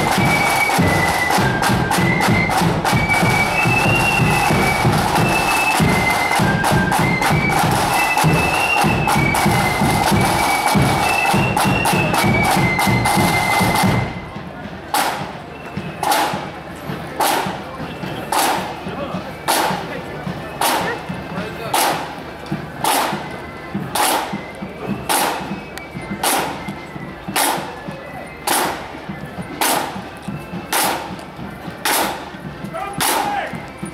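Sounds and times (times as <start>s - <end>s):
flutes playing shrill melody: 0.0s - 33.9s
snare and bass drums: 0.0s - 33.9s.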